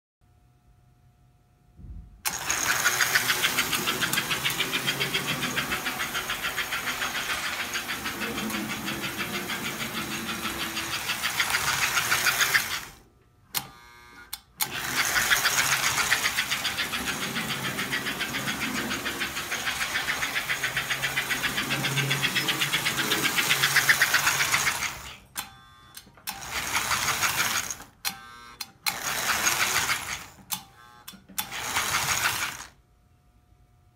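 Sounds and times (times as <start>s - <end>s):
toy train motor whirring: 2.3s - 13.0s, 14.3s - 25.5s, 26.3s - 28.2s, 28.8s - 32.8s.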